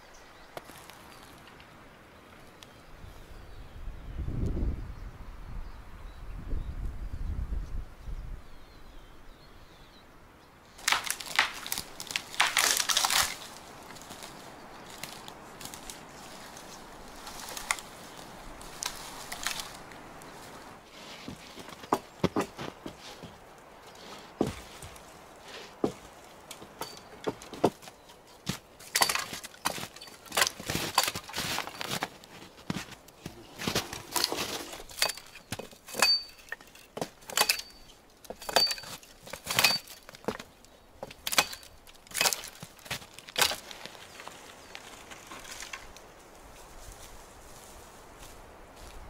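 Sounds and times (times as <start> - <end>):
dry grass and twigs crunching: 0.3 - 2.9, 10.7 - 49.0.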